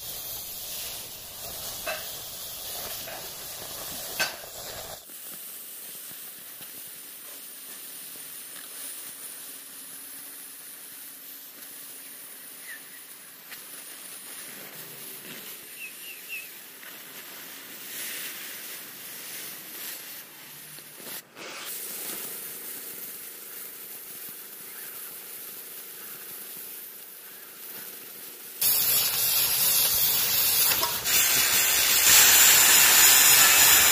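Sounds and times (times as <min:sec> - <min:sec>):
cutting torch hissing: 0:00.0 - 0:33.9.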